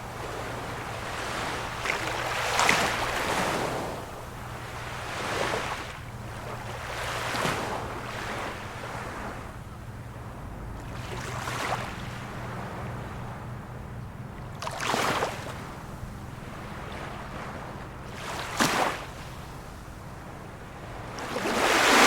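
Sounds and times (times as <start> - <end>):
small sea waves washing in: 0.0 - 13.7, 14.3 - 22.0
steady low hum: 0.0 - 22.0.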